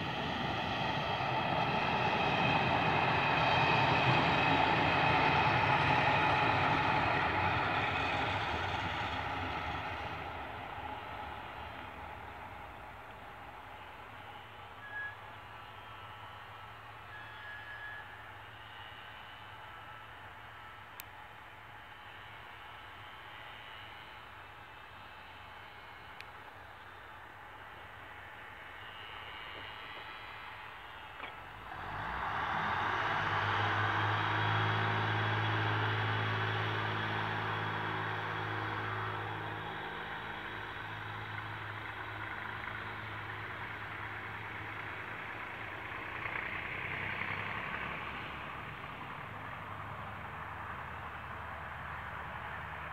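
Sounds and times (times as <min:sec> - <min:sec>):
diesel engine drone: 0:00.0 - 0:52.9
rushing rail noise: 0:00.0 - 0:52.9.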